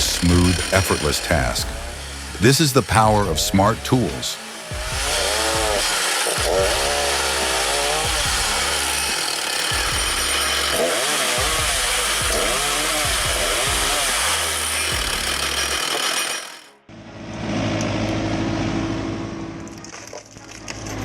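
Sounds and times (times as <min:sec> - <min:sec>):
powered saw cutting wood: 0:00.0 - 0:19.8.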